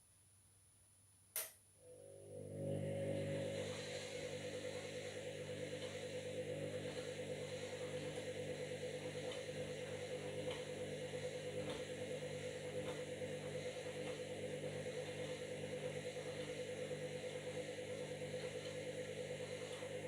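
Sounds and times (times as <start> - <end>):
washing machine motor hum: 1.8 - 20.0.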